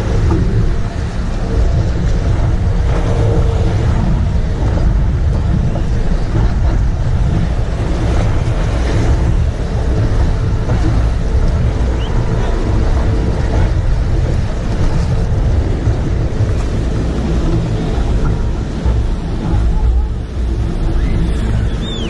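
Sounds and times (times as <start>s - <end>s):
hull on choppy water: 0.0s - 22.0s
motorboat engine rumble: 0.0s - 22.0s
rushing wind: 0.0s - 22.0s.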